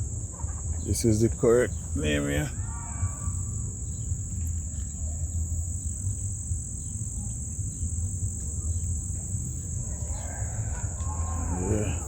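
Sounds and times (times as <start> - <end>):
insects trilling: 0.0 - 12.0
low constant rumble: 0.0 - 12.0.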